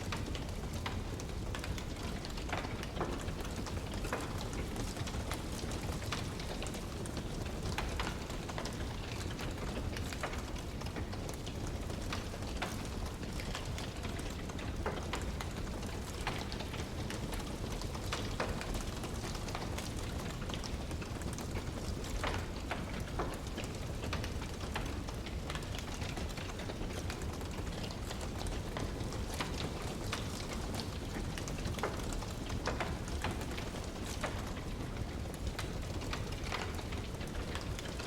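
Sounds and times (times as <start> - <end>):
wood fire snapping and popping: 0.0 - 38.0.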